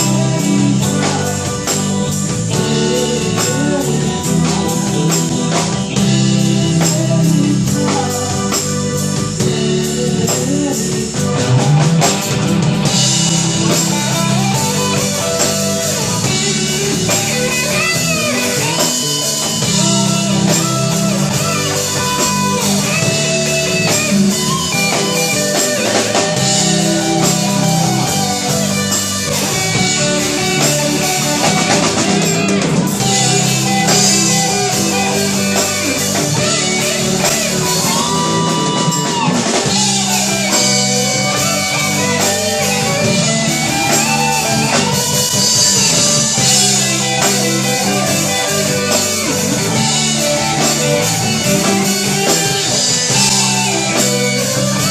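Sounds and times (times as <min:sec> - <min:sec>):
bass: 0:00.0 - 0:54.9
drum kit: 0:00.0 - 0:54.9
guitar: 0:00.0 - 0:54.9
keyboard: 0:00.0 - 0:54.9.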